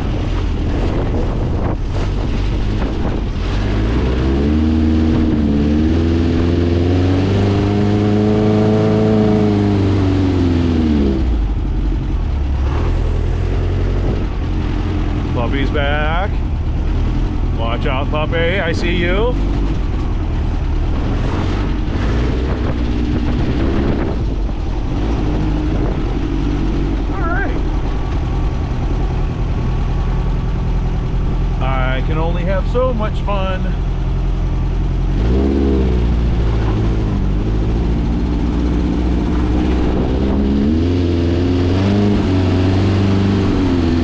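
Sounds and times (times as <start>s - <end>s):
buggy engine accelerating: 0.0s - 44.0s.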